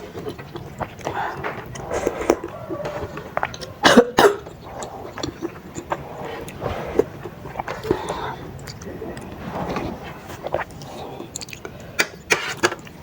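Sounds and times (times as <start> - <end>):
wet chewing and slurping: 0.0 - 13.0.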